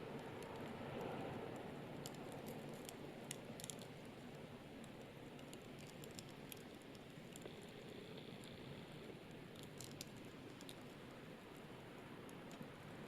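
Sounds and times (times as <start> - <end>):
soft steady hiss: 0.0 - 13.0
wood fire crackling: 1.8 - 13.0.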